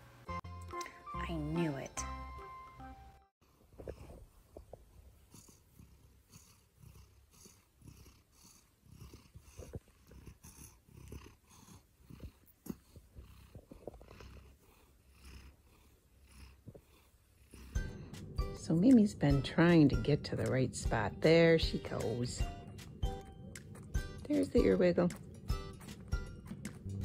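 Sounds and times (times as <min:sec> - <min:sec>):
cat purring: 0:03.4 - 0:27.0.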